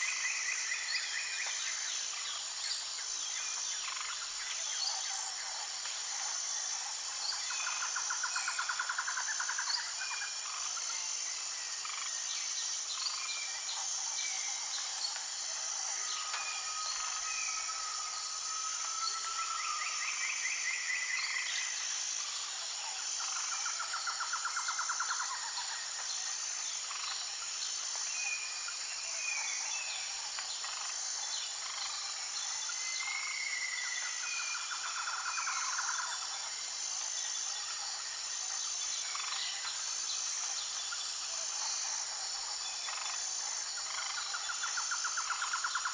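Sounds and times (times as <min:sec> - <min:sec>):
high-pitched insect drone: 0:00.0 - 0:45.9.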